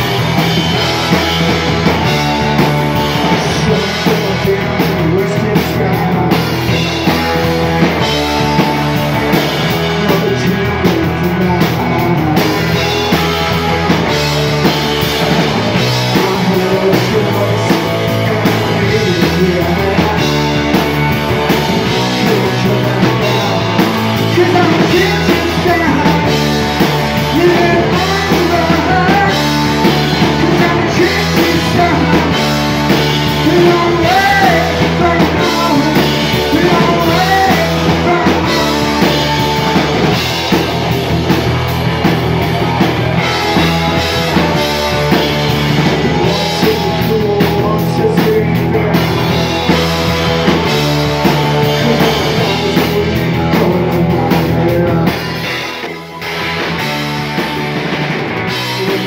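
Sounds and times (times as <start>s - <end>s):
man singing lead vocal: 0.0s - 40.2s, 43.2s - 56.2s, 58.5s - 59.0s
drum kit: 0.0s - 59.0s
electric bass: 0.0s - 59.0s
electric guitars: 0.0s - 59.0s.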